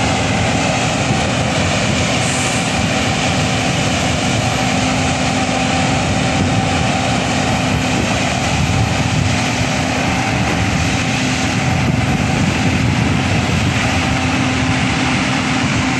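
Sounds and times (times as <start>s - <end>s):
diesel engine humming: 0.0s - 15.9s.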